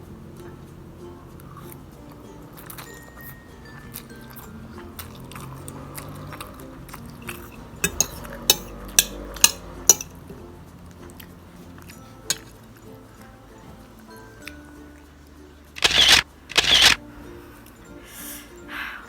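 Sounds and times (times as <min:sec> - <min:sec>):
faint music: 0:00.0 - 0:19.0
utensils clinking against a bowl: 0:01.4 - 0:18.0.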